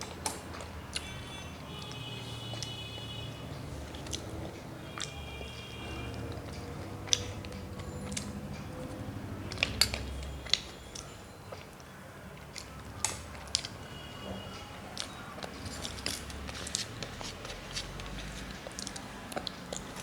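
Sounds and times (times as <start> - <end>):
person chewing: 0.1 - 2.8, 3.7 - 13.8, 14.9 - 20.0.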